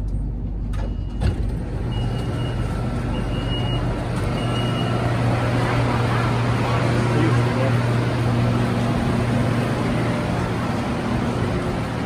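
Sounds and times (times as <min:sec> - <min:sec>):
train running hum: 0:00.0 - 0:12.0.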